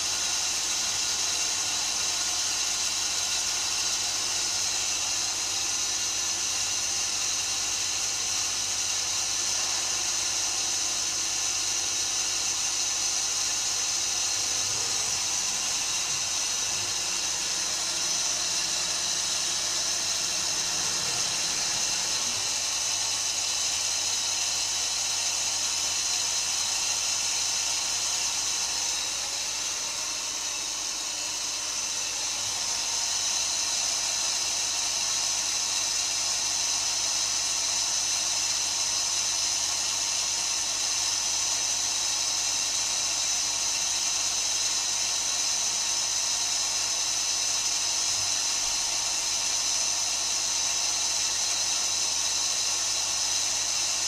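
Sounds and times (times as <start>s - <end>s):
lathe hissing and whining: 0.0s - 54.0s.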